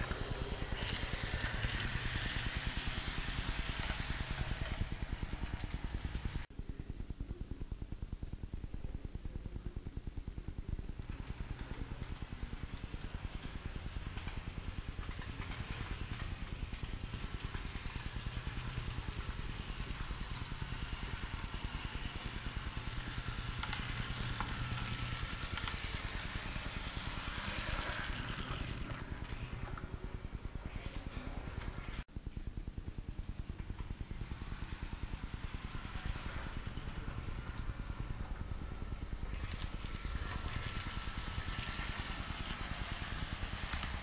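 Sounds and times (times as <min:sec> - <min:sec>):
model train rattling: 0:00.0 - 0:06.4, 0:11.0 - 0:32.0, 0:33.6 - 0:44.0.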